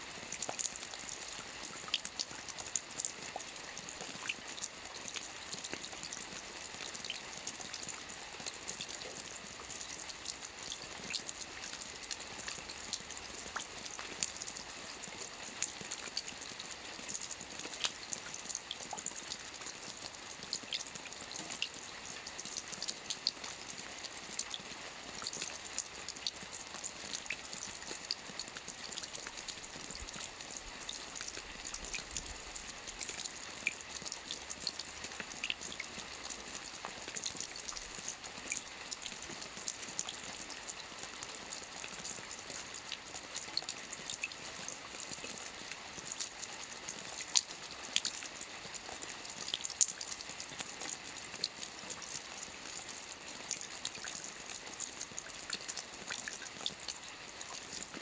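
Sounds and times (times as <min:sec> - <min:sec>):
raindrops ticking on a surface: 0:00.0 - 0:58.0
steady rain hiss: 0:00.0 - 0:58.0.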